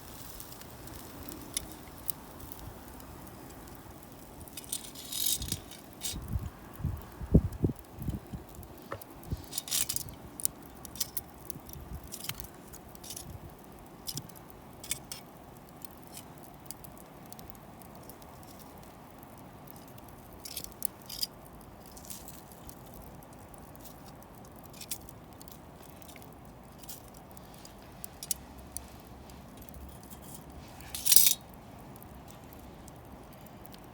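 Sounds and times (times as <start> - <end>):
sharp pops and snaps: 0.0 - 33.9
wood fire crackling: 0.0 - 33.9.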